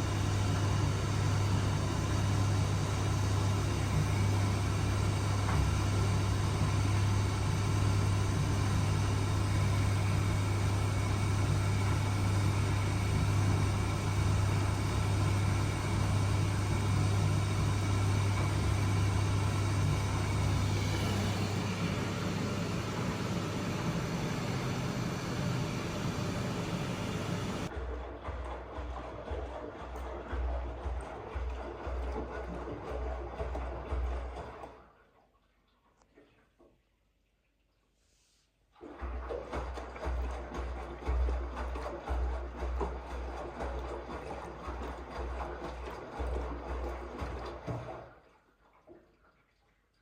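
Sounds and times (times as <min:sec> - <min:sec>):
washing machine running: 0:00.0 - 0:35.0, 0:38.8 - 0:48.4.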